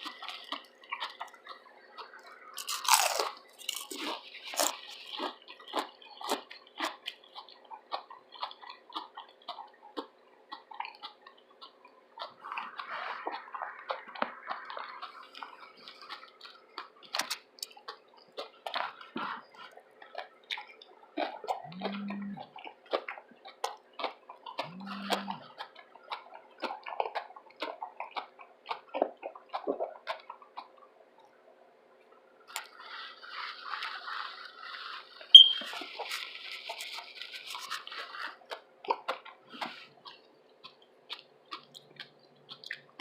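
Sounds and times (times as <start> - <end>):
low steady hums: 0.0 - 43.0
wet chewing and crunching: 0.0 - 43.0.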